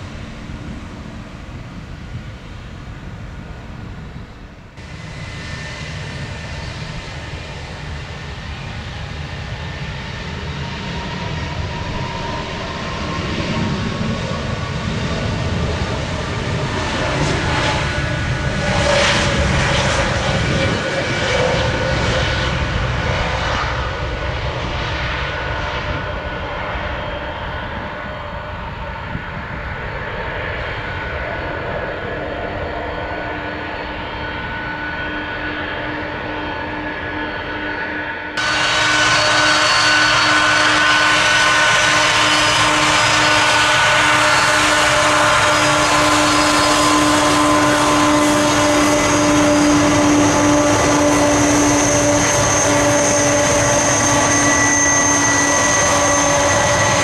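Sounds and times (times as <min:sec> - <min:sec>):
jet engine roar: 0:00.0 - 0:57.0
jet engine whine falling: 0:00.0 - 0:57.0.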